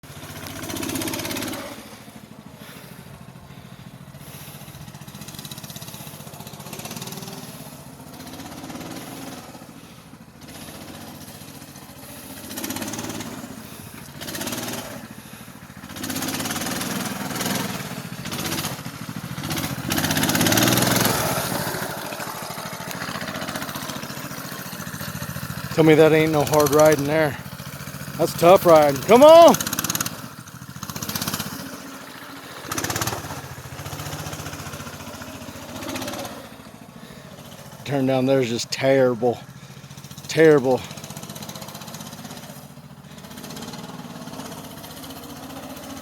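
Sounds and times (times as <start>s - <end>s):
minibike engine running: 0.0s - 46.0s.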